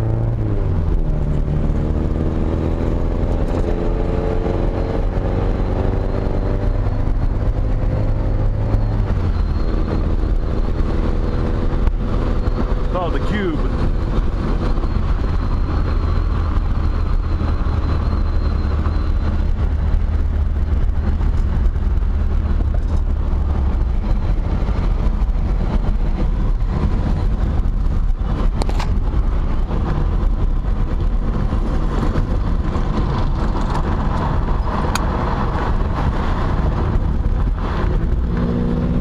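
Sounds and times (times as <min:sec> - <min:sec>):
car engine running: 0:00.0 - 0:39.0
road noise: 0:00.0 - 0:39.0.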